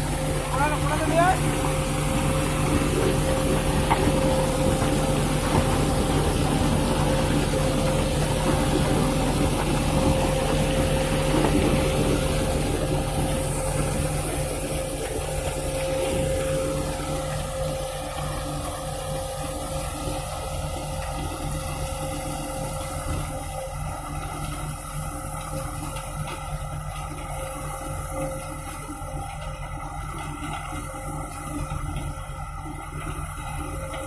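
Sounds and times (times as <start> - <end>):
diesel engine humming: 0.0 - 34.0.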